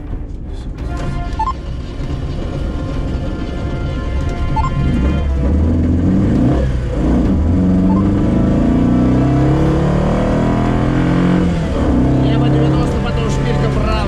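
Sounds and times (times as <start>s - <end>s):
car engine accelerating: 1.6s - 14.0s.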